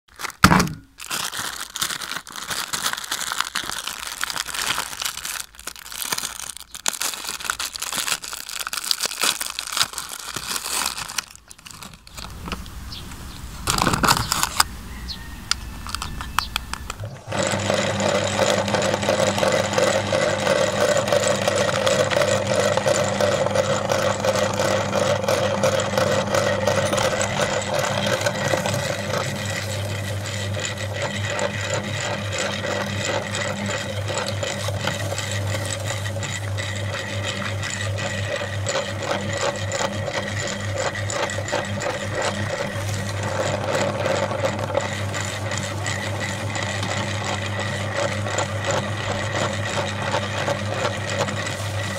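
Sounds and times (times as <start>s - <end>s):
cookies crunching: 0.1s - 51.9s
meat grinder motor humming: 3.2s - 51.9s.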